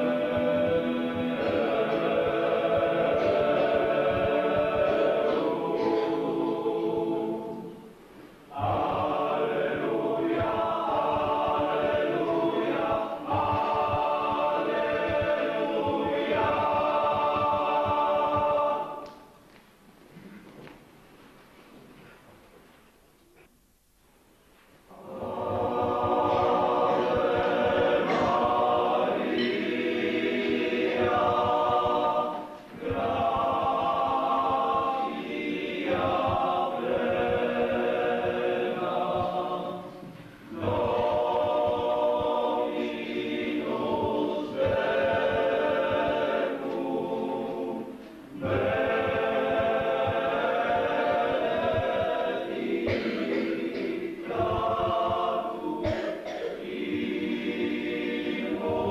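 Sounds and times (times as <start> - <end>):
group singing a hymn: 0.0 - 19.4, 24.9 - 58.9.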